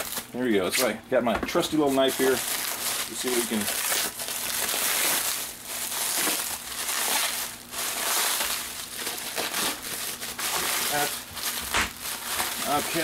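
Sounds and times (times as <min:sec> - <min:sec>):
bubble wrap crinkling: 0:00.0 - 0:01.0, 0:01.6 - 0:13.0
knife slitting bubble wrap: 0:01.8 - 0:13.0.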